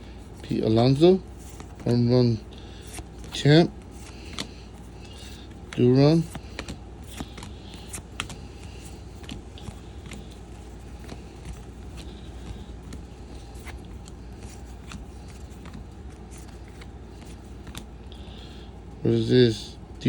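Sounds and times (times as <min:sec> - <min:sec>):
steady low hum: 0:00.0 - 0:20.0
cards flicking and sliding: 0:00.1 - 0:18.4.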